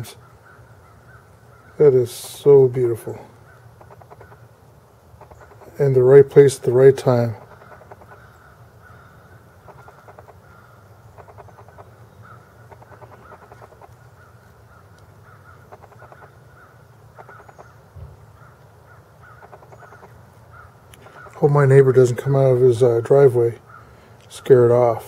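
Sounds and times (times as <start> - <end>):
faint bird calls: 0.0 - 25.0.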